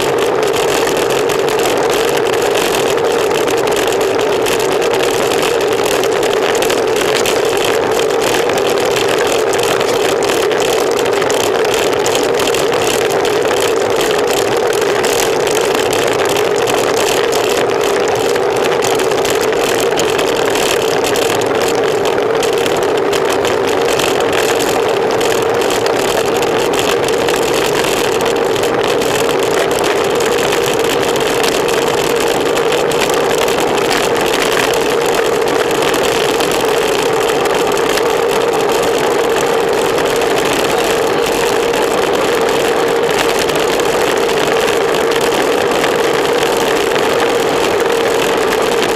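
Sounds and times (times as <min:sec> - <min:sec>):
tyre noise on asphalt: 0:00.0 - 0:48.9.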